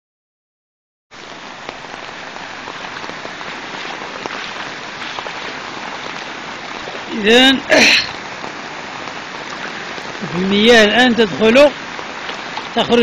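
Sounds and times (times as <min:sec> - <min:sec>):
floodwater rushing: 0:01.1 - 0:13.0.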